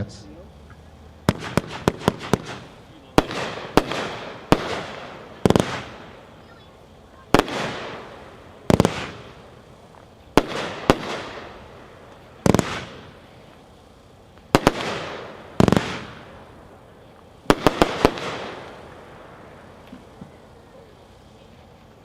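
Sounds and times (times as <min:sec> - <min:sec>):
fireworks bursts: 0:00.0 - 0:22.0.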